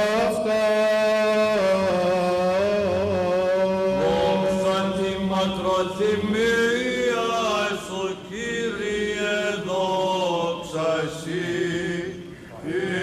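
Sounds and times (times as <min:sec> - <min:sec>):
held vocal drone: 0:00.0 - 0:13.0
men chanting in echoing church: 0:00.0 - 0:13.0.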